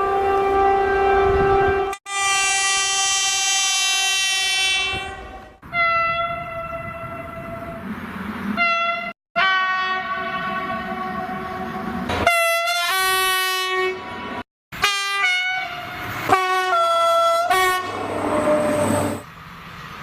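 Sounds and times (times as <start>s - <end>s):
train horn blasts: 0.0s - 7.7s, 8.6s - 19.1s.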